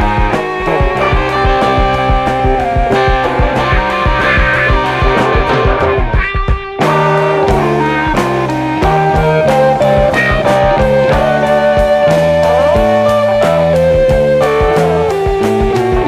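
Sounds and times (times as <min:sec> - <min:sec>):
rock instrumental with guitar: 0:00.0 - 0:16.0.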